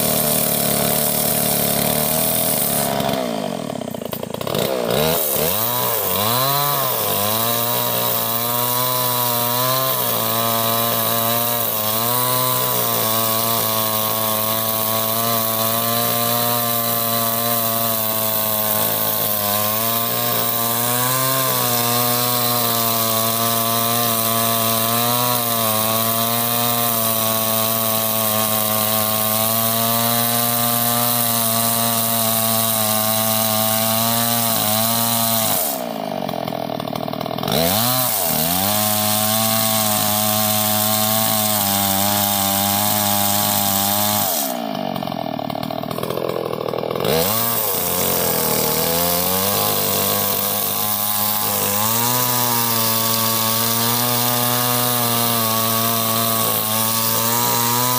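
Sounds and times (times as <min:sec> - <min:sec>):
chainsaw cutting through log: 0:00.0 - 0:57.9.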